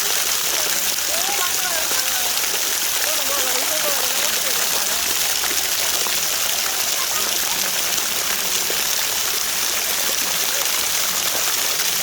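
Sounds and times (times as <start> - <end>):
faint children's voices: 0.0 - 12.0
stream rushing over rocks: 0.0 - 12.0.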